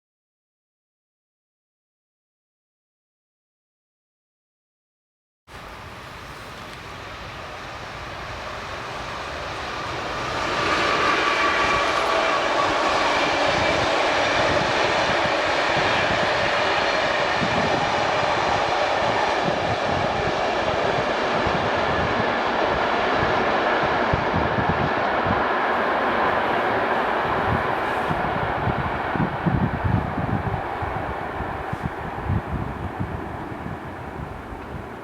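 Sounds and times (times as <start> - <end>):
train passing: 5.5 - 35.0.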